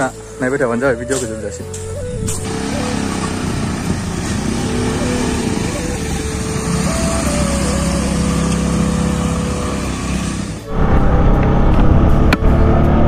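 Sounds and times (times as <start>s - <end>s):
motorcycle engines humming: 0.0s - 13.0s.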